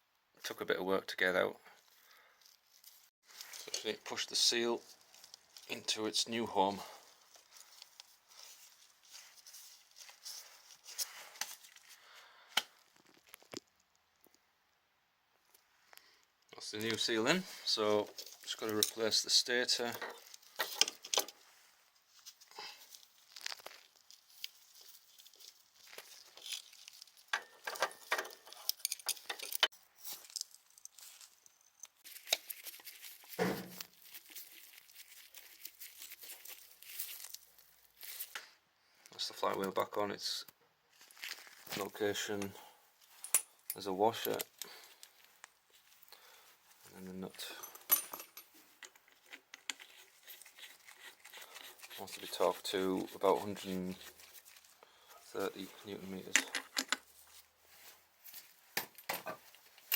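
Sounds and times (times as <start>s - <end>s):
rustling: 1.7s - 14.0s, 16.6s - 39.0s, 40.9s - 59.9s.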